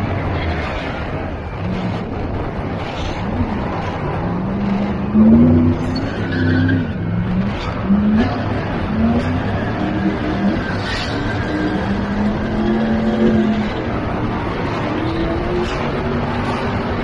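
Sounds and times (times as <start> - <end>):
truck engine revving: 0.0 - 17.0
tyres sliding: 0.0 - 17.0.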